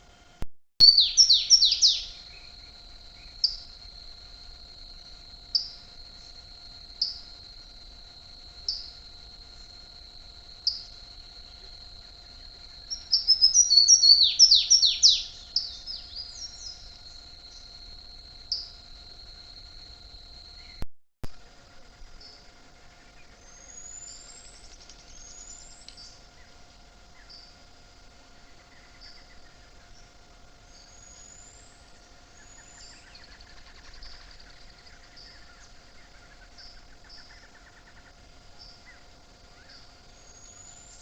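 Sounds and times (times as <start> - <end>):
songbird singing: 0.0 - 41.0.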